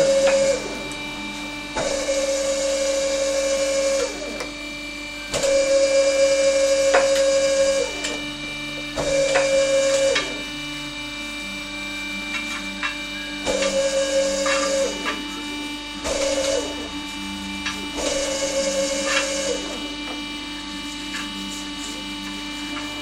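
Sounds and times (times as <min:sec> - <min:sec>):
motor whining with hiss: 0:00.0 - 0:23.0.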